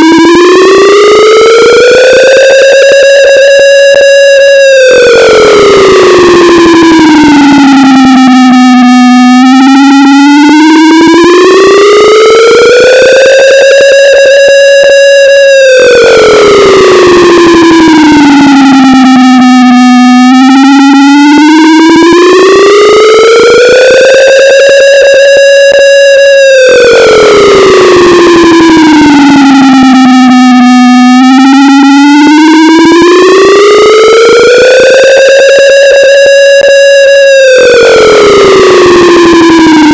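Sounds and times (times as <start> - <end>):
distorted air raid siren wailing: 0.0 - 39.9.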